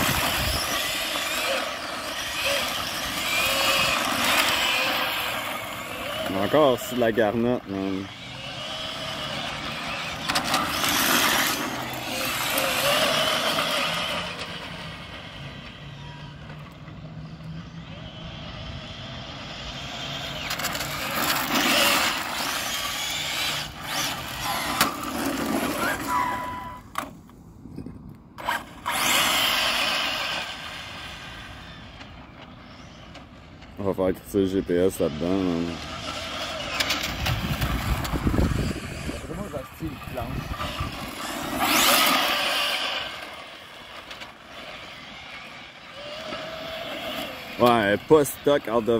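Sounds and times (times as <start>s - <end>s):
tyre noise on asphalt: 0.0s - 17.2s, 19.6s - 33.9s, 35.2s - 48.9s
electric motor whining: 0.0s - 26.9s, 28.4s - 33.4s, 34.6s - 48.9s.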